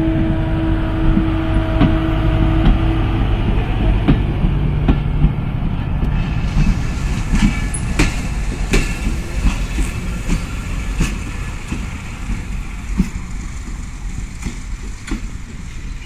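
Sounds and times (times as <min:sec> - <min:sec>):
train coaches rumbling past: 0:00.0 - 0:16.0
wheels clacking over rail joints: 0:01.0 - 0:16.0.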